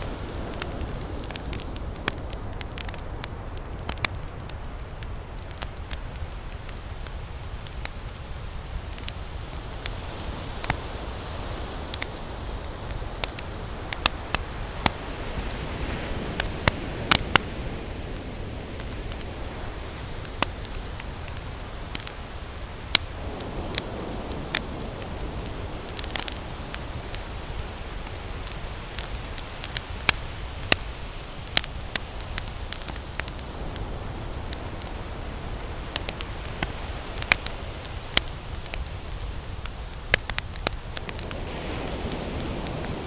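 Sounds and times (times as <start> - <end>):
waves washing in: 0.0 - 7.3, 8.0 - 43.0
campfire crackling and popping: 0.0 - 43.0.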